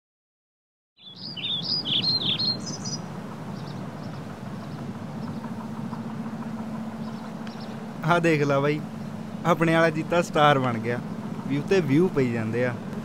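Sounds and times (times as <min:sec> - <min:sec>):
low outdoor rumble: 0:01.0 - 0:13.0
songbird singing: 0:01.0 - 0:13.0.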